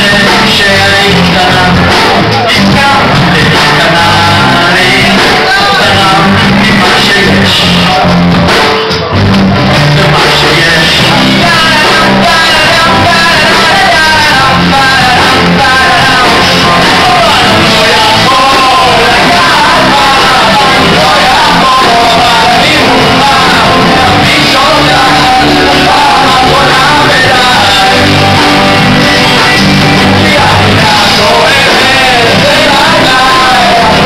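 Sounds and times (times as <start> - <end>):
drums: 0.0 - 34.0
electric bass: 0.0 - 34.0
electric guitar: 0.0 - 34.0
man singing: 0.0 - 34.0.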